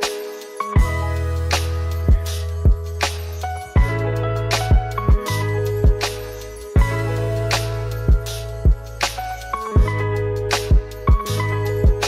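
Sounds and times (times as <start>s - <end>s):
deep sustained bass: 0.8s - 10.5s.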